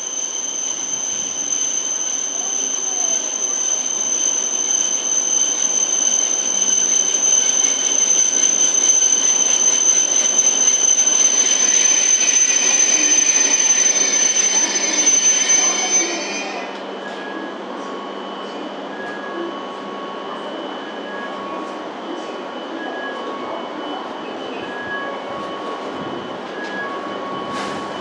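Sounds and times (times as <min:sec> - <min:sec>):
train hum and high whine: 0:00.0 - 0:28.0
train wheel and brake squeal: 0:00.0 - 0:28.0.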